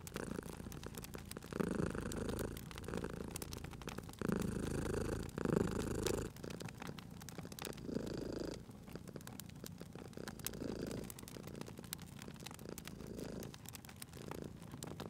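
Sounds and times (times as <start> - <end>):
cat purring: 0.0 - 15.0
wood fire crackling: 0.0 - 15.0.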